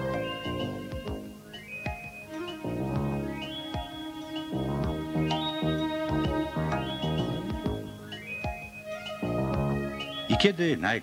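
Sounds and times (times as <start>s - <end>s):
sustained electronic tones: 0.0s - 10.5s.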